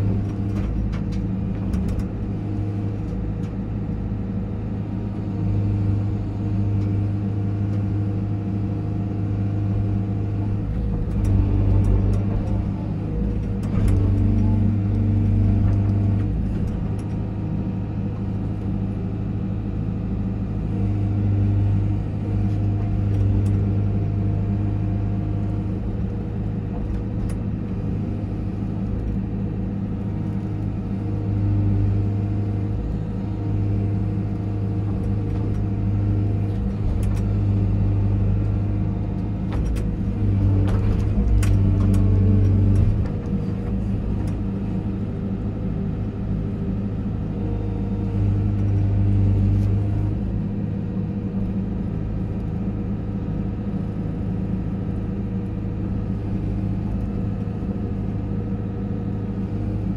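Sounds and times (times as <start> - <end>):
excavator diesel engine: 0.0 - 59.9.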